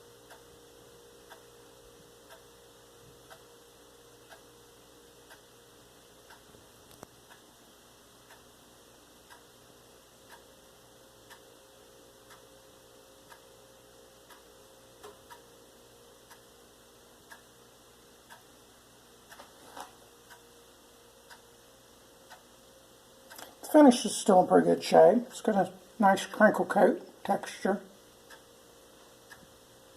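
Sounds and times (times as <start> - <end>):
clock ticking: 0.0 - 8.6, 9.2 - 19.6, 20.2 - 29.9.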